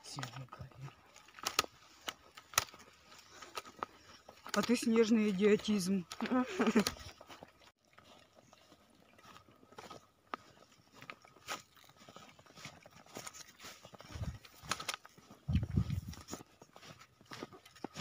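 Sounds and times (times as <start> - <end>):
footsteps crunching in snow: 0.0 - 18.0.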